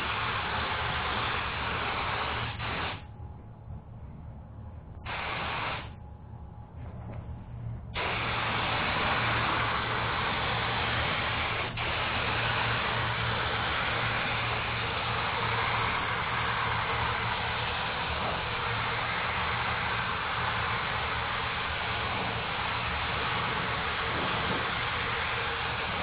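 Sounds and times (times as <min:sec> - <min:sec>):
paint spray gun hissing: 0:00.0 - 0:03.0, 0:05.1 - 0:05.9, 0:08.0 - 0:26.0
steady low hum: 0:00.0 - 0:26.0.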